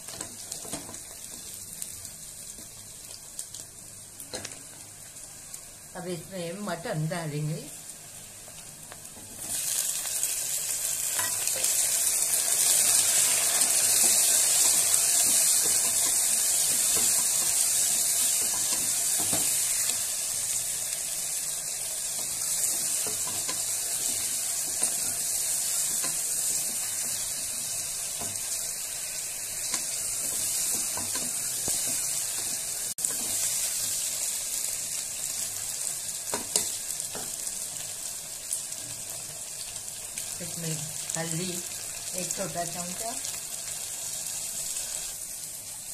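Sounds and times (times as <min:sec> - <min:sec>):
meat sizzling in hot oil: 0:00.0 - 0:45.9.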